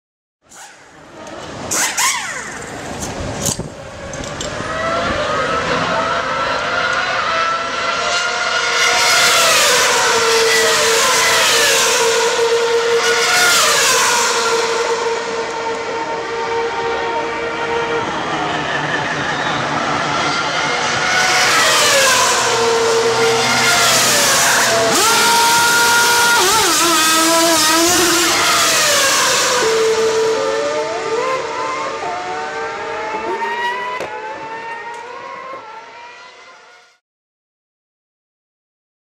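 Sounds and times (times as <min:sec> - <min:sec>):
racing car engines passing: 0:00.9 - 0:36.9.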